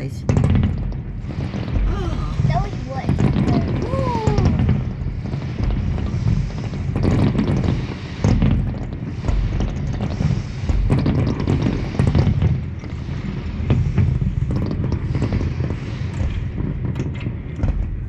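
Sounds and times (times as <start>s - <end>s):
firework crackles: 0.0s - 18.0s
muffled firework booms: 0.0s - 18.0s.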